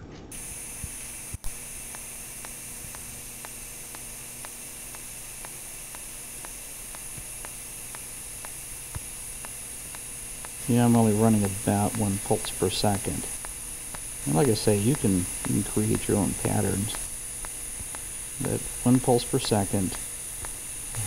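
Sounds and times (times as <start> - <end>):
faint ticks: 0.3 - 21.0
welding arc hiss: 0.3 - 21.0.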